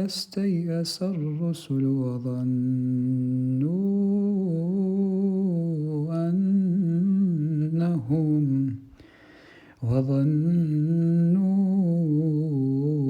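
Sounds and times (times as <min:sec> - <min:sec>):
man chanting recitation: 0:00.0 - 0:08.8, 0:09.8 - 0:13.0.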